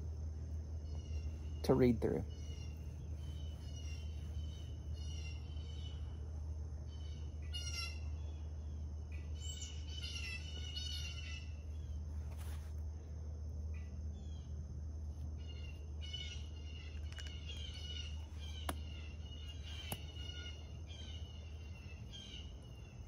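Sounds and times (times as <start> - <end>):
steady low hum: 0.0 - 23.0
songbirds chirping and singing: 0.5 - 6.2, 6.8 - 12.0, 15.4 - 23.0.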